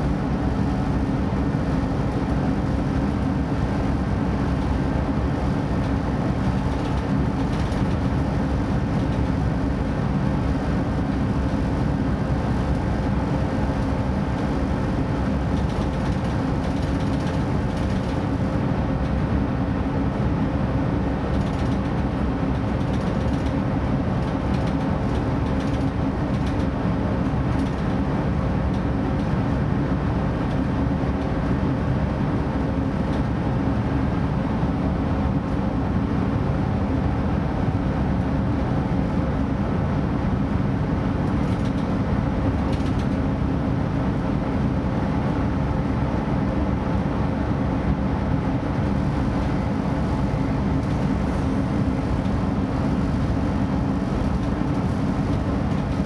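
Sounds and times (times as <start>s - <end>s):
train engine and wheels drone: 0.0s - 56.0s.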